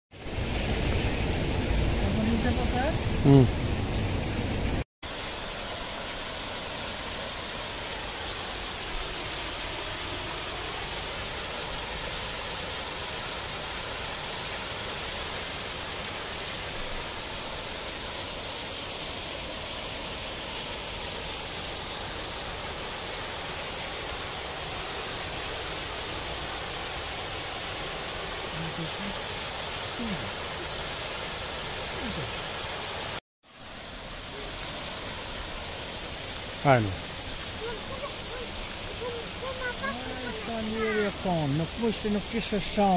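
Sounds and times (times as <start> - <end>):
river rushing over rocks: 0.3 - 42.9.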